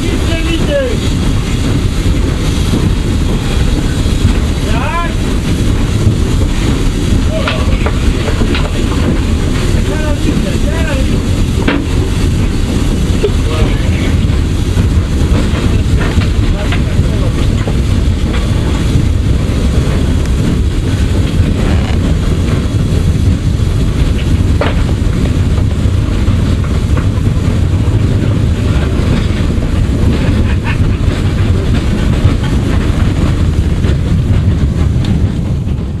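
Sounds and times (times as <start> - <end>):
steam locomotive rumble and rattle: 0.0 - 36.0.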